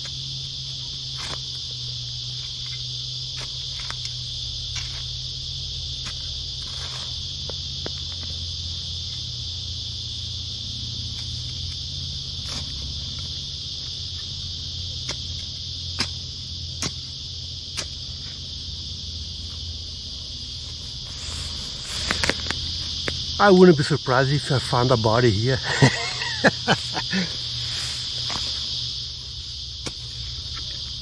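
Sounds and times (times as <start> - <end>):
high insect chorus: 0.0 - 31.0.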